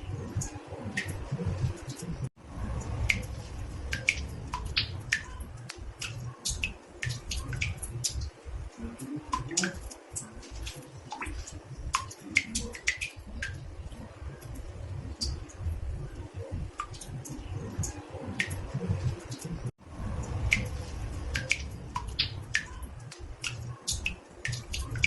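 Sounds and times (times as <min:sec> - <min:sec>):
steady low rumble: 0:00.0 - 0:25.0
water drops plinking into bathtub: 0:02.8 - 0:25.0.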